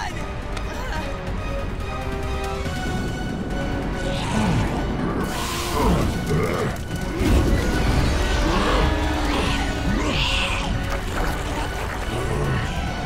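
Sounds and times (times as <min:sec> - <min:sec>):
action film score: 0:00.0 - 0:13.0.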